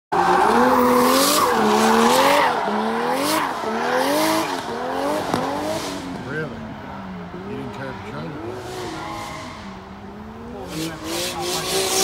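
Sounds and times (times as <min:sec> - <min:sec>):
car engine revving: 0:00.1 - 0:12.0.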